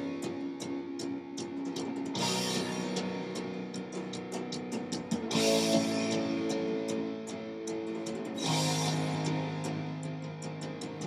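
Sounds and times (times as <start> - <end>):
guitar chords ringing: 0.0 - 11.0
rhythmic sharp ticks: 0.0 - 11.0.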